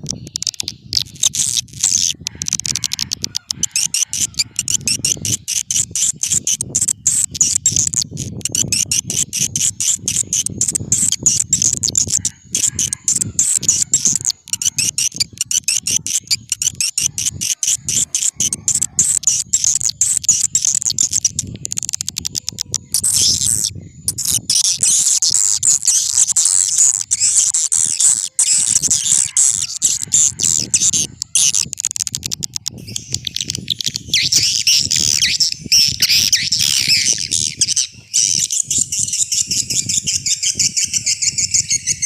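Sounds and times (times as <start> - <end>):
high twittering bird chirps: 0.0 - 42.0.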